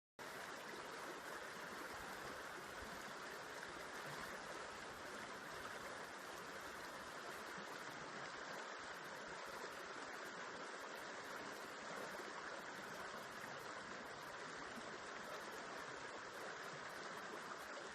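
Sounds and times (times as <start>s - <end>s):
river water flowing over rocks: 0.2s - 17.9s.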